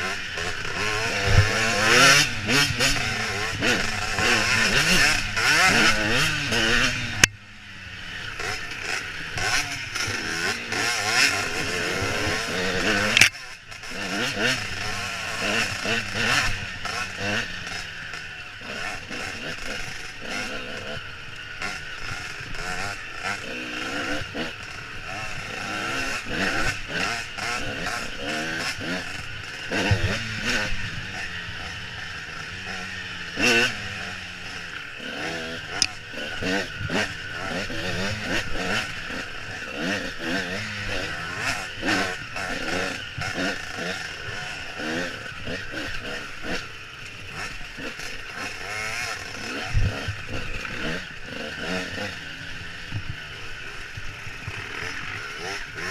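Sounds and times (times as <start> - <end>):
dirt bike engine: 0.0 - 55.9.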